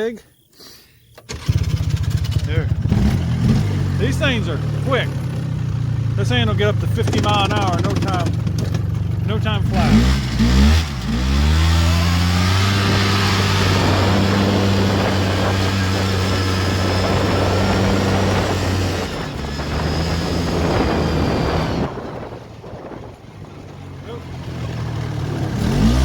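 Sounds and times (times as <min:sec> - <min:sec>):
atv engine revving: 0:01.1 - 0:26.0.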